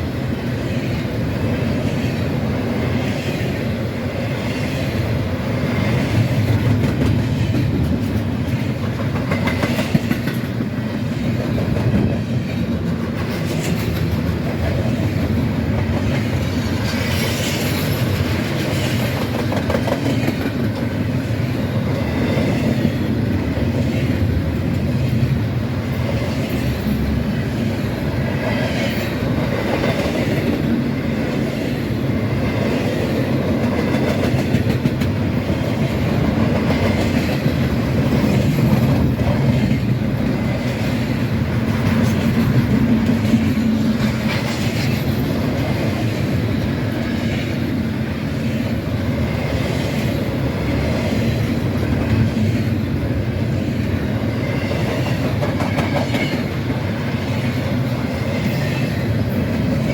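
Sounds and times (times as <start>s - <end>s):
rail clacks: 0.0s - 59.9s
train wheels rumbling on rails: 0.0s - 59.9s.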